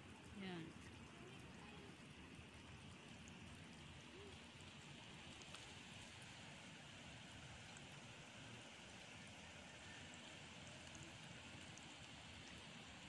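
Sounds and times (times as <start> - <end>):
faint shore background hiss: 0.0 - 13.0.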